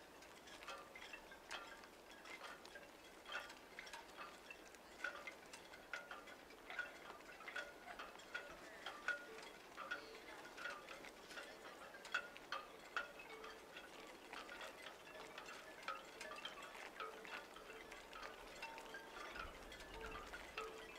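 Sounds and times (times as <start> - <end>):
tinkling chimes: 0.0 - 20.9.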